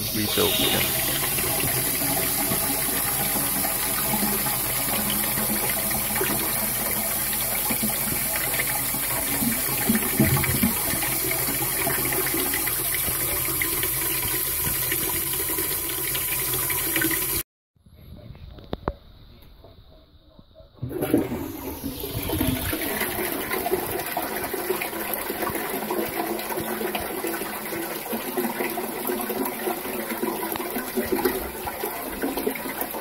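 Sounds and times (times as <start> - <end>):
toilet cistern refilling: 0.0 - 17.4, 20.8 - 33.0.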